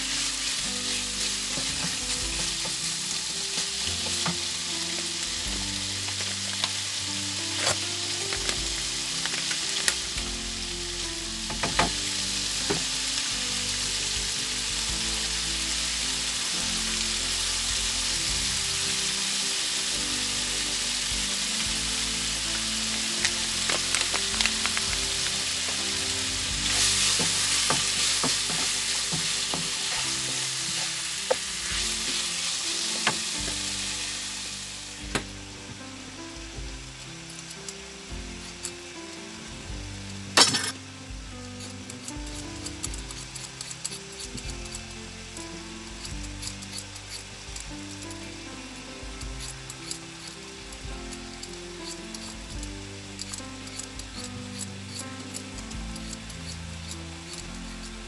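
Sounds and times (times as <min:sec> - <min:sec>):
meat and onion sizzling: 0:00.0 - 0:58.0
wooden spoon stirring in pan: 0:00.0 - 0:58.0.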